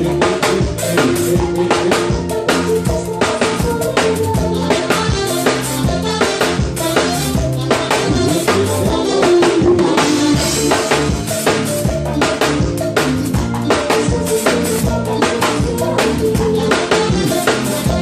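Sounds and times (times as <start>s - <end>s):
drum kit beat: 0.0s - 18.0s
live band playing upbeat song: 0.0s - 18.0s.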